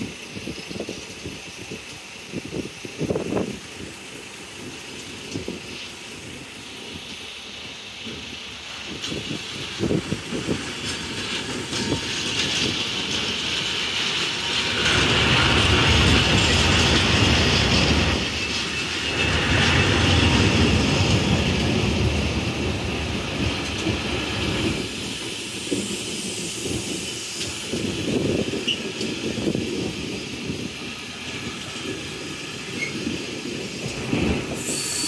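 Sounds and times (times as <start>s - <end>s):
high whine from wheels: 0.0s - 35.0s
train wagons rumbling past: 0.0s - 35.0s
wheels clacking over rail joints: 0.1s - 35.0s.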